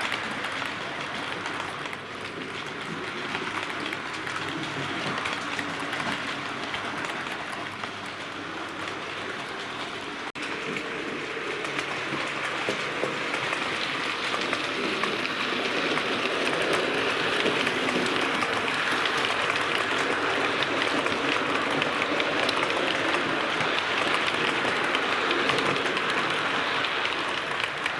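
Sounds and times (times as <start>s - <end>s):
model train running on track: 0.0s - 27.9s.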